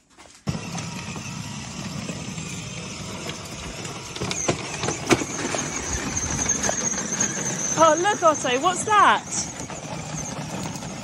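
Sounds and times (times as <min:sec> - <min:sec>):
plastic wheels rumbling: 0:00.1 - 0:11.0
toy tractor motor running: 0:00.4 - 0:11.0.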